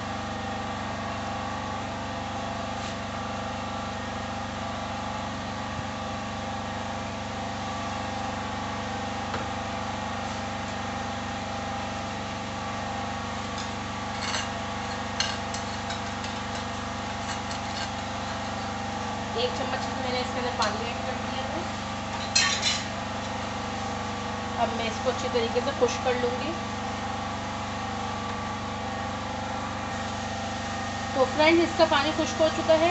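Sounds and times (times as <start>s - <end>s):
generator engine humming: 0.0s - 22.2s, 22.9s - 32.9s.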